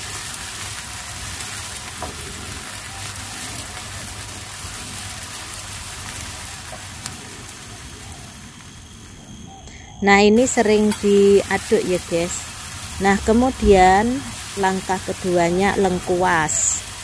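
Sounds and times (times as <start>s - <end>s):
shallots sizzling in oil: 0.0s - 17.0s.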